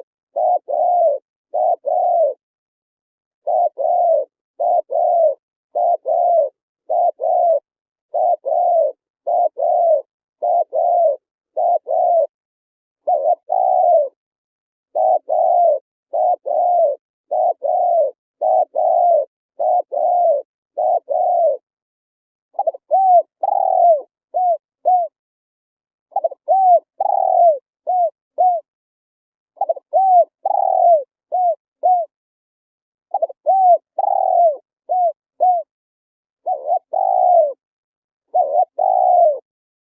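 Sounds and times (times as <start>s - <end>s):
dove cooing: 0.0s - 2.4s, 3.4s - 12.3s, 13.0s - 14.2s, 14.9s - 21.7s, 22.5s - 25.2s, 26.1s - 28.7s, 29.6s - 32.2s, 33.1s - 35.7s, 36.4s - 37.6s, 38.3s - 39.5s.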